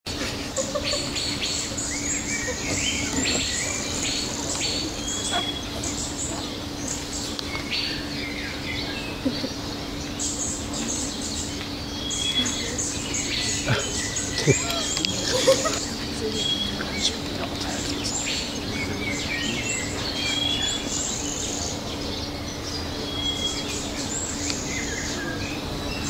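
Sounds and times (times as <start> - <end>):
birds chirping and singing: 0.1 - 26.0
steady low hum: 0.1 - 26.0.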